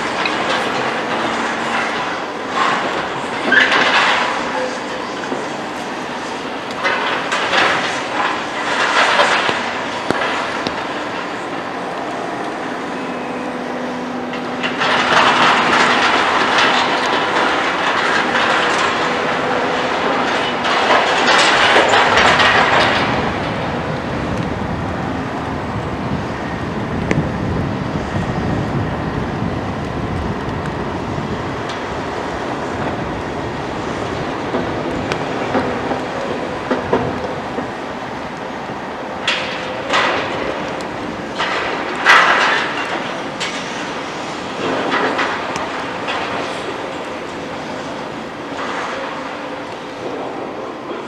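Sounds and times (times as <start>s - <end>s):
demolition debris clattering: 0.0s - 11.9s, 14.3s - 27.4s, 28.0s - 51.0s
excavator diesel engine: 0.0s - 51.0s.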